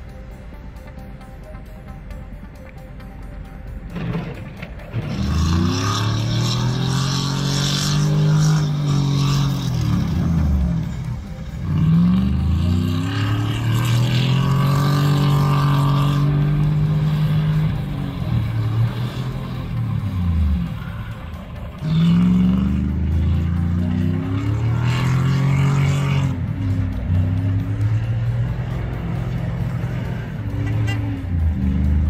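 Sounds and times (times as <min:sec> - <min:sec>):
engine revving hard: 0:04.9 - 0:32.0.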